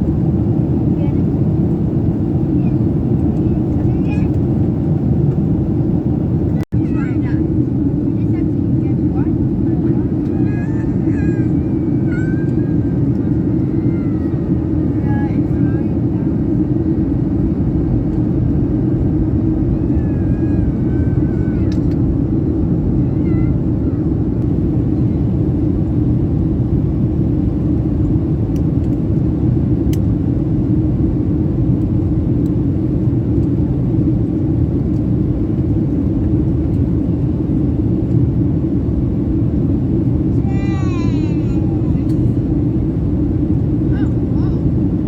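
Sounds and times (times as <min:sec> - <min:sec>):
airplane cabin engine rumble: 0:00.0 - 0:45.0.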